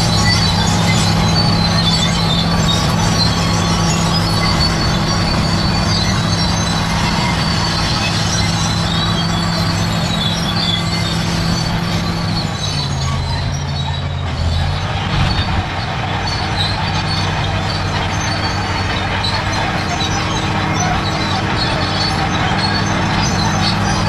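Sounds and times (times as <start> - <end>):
bulldozer diesel engine running: 0.0 - 24.0
steel tracks squealing: 0.0 - 24.0.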